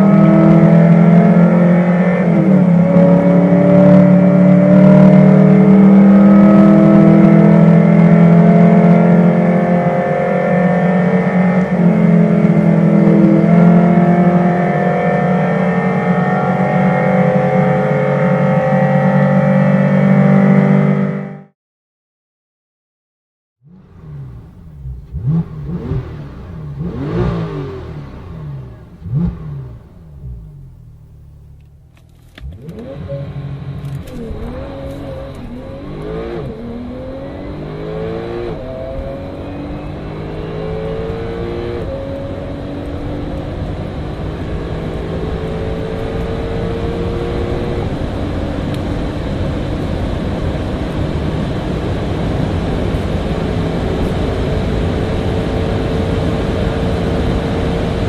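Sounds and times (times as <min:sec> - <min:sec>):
car accelerating through gears: 0:00.0 - 0:21.5, 0:23.6 - 0:58.0
sports car engine revving: 0:00.0 - 0:21.5, 0:23.6 - 0:58.0.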